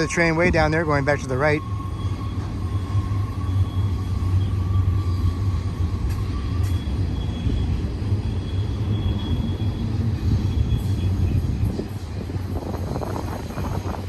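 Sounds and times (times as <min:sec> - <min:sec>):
freight train rumbling past: 0:00.0 - 0:14.0
high tones from train wheels: 0:00.0 - 0:14.0.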